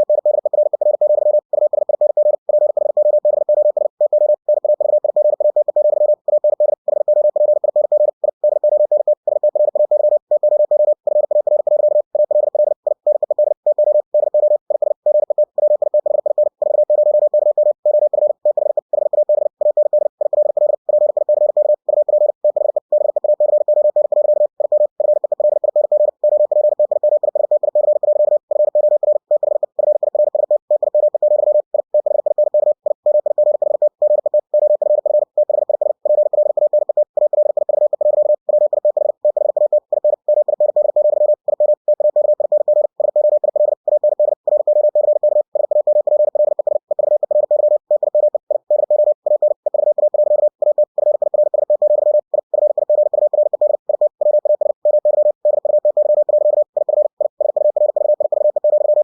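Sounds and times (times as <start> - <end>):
morse code tone: 0.0 - 59.0.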